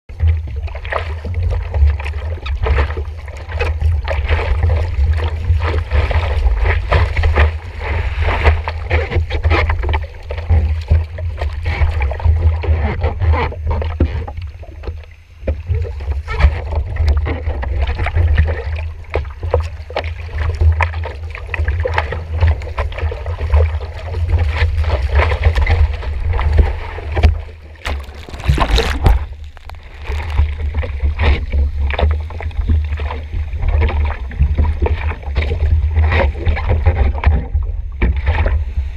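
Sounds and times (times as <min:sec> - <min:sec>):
constant low rumble: 0:00.1 - 0:38.9
rush of water: 0:00.1 - 0:38.9
water splashing and sloshing: 0:00.1 - 0:38.9.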